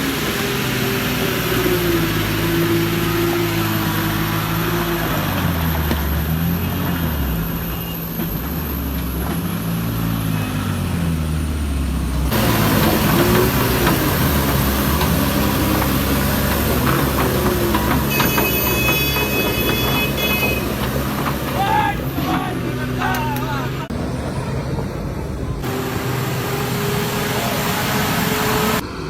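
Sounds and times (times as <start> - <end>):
truck diesel engine under load: 0.0 - 29.0.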